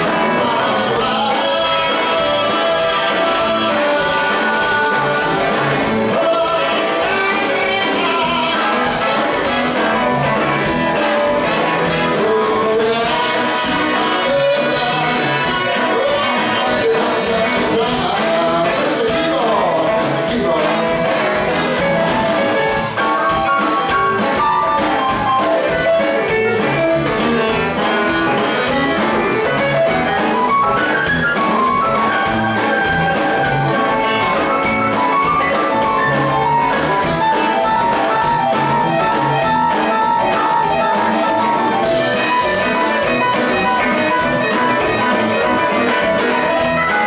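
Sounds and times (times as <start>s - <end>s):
live rock band playing: 0.0s - 47.0s.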